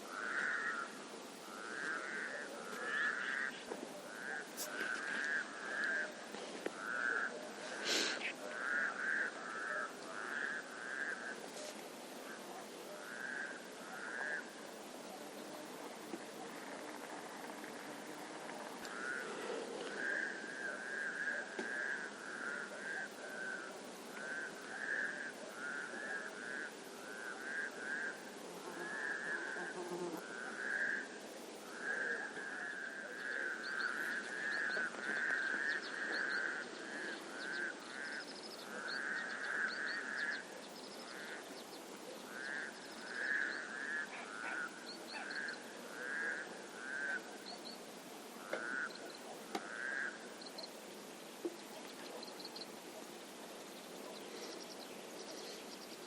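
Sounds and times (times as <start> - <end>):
frogs croaking chorus: 0.0 - 56.0.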